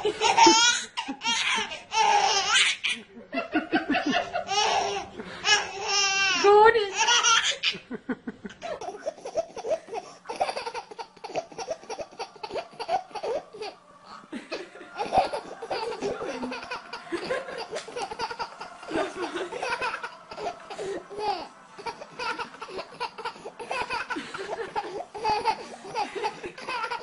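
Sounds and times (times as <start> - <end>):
baby laughing: 0.0 - 3.0, 4.5 - 7.8, 8.8 - 13.8, 14.6 - 27.0.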